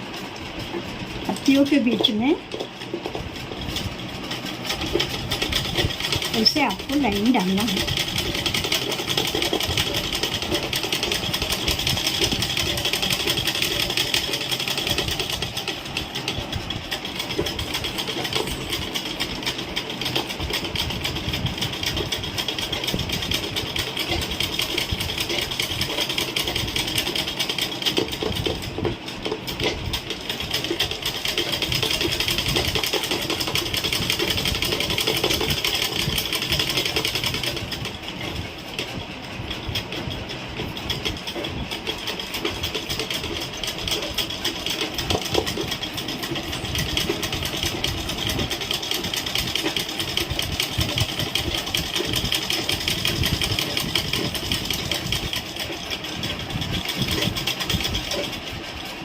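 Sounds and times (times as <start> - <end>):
sewing machine running: 0.0 - 59.0.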